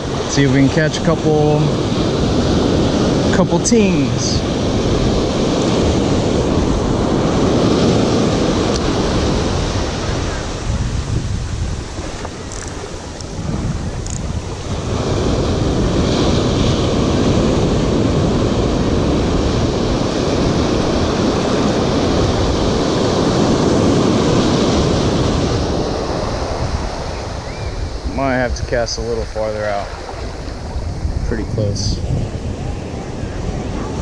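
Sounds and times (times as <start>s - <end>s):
surf washing up the beach: 0.0s - 34.0s
wind rumbling on microphone: 0.0s - 34.0s.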